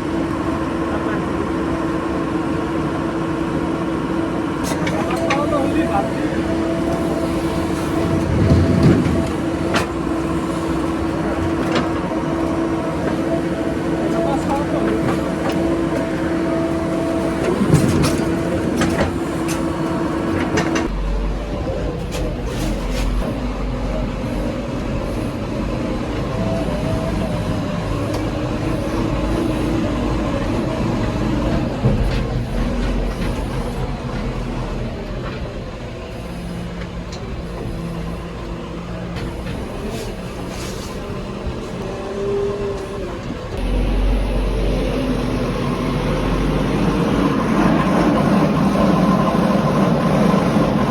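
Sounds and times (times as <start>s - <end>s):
diesel engine running with whine: 0.0s - 50.9s.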